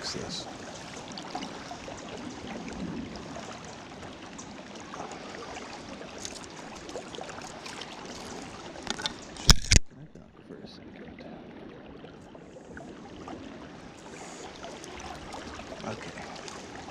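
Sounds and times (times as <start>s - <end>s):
river current flowing: 0.0s - 16.9s.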